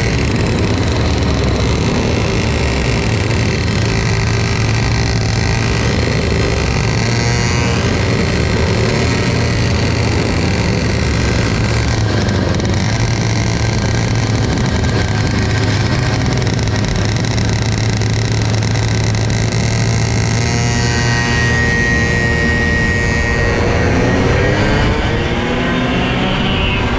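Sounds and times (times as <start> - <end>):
kart engine running: 0.0 - 26.9
other kart engines passing: 0.0 - 26.9.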